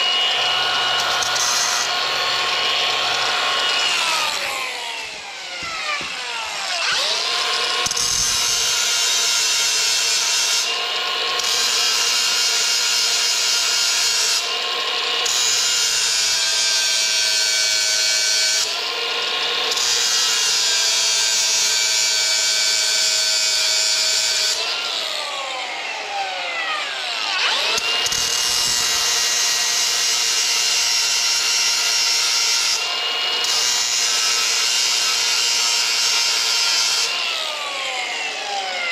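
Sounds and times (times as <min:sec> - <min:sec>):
angle grinder grinding metal: 0:00.0 - 0:38.9.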